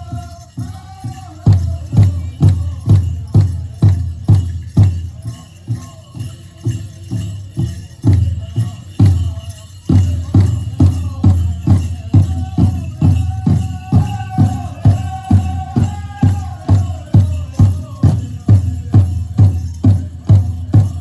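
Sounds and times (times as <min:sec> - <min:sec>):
men singing: 0:00.0 - 0:06.7, 0:08.3 - 0:21.0
big drum steady beat: 0:00.0 - 0:21.0
jingling: 0:00.0 - 0:21.0.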